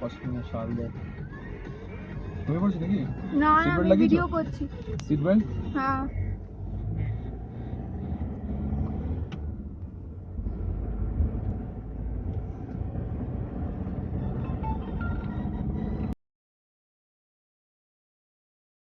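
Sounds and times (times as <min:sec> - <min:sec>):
car engine and road rumble: 0:00.0 - 0:16.2.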